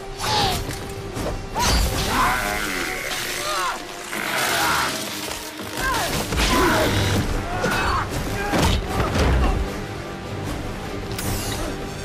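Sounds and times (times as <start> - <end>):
dramatic music: 0.0 - 12.0.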